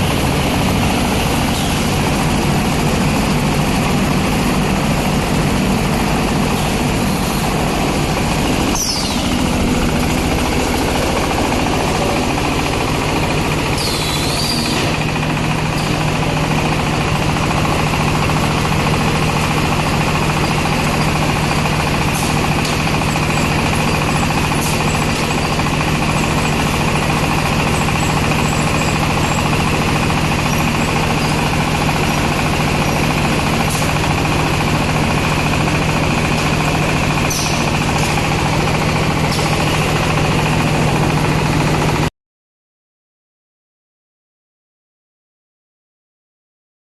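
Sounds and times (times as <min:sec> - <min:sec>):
baler engine chugging: 0:00.0 - 0:42.1.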